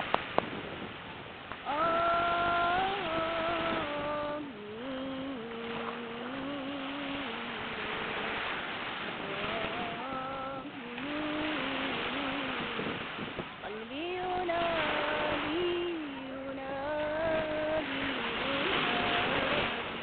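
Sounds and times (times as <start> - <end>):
person humming a slow melody: 1.6 - 8.5, 9.1 - 13.0, 13.6 - 20.0.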